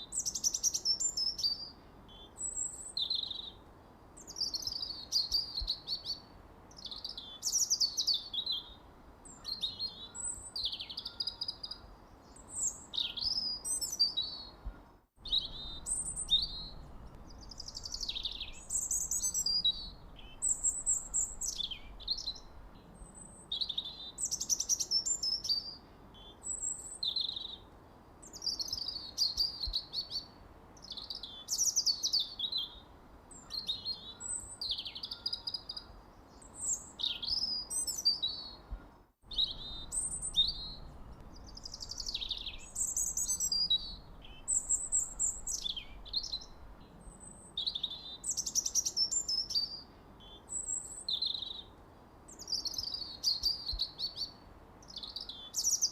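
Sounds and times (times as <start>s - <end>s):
faint background hiss: 0.0s - 55.9s
songbirds chirping and trilling: 0.0s - 55.9s.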